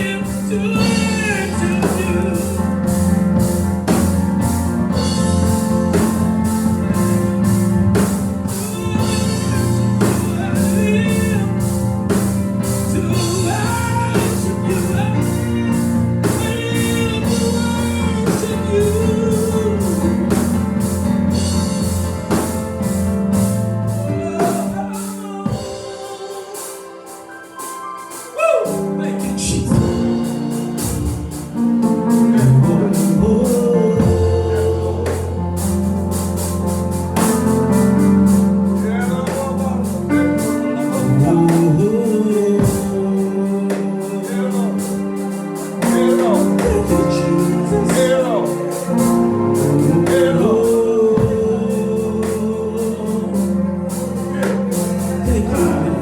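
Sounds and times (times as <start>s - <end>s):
band playing: 0.0s - 56.0s
steady drum beat: 0.0s - 56.0s
voices singing gospel: 0.0s - 56.0s.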